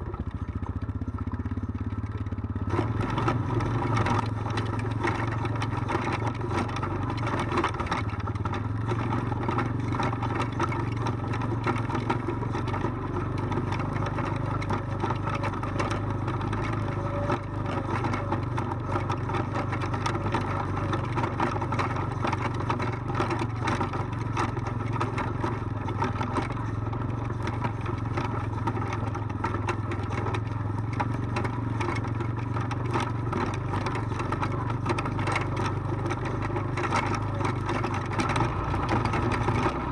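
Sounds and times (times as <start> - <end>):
atv engine running: 0.0 - 39.9
wheels knocking over rocks: 0.0 - 39.9.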